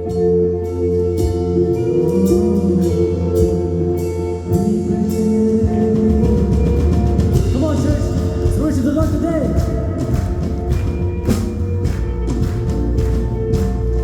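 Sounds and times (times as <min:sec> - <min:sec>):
bass notes: 0:00.0 - 0:14.0
percussion hits: 0:00.0 - 0:14.0
sustained keyboard chords: 0:00.0 - 0:14.0.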